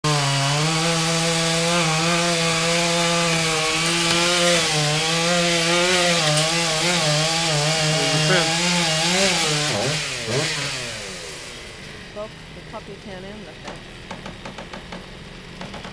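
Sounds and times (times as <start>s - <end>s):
chainsaw cutting wood: 0.0s - 12.5s, 13.6s - 15.9s.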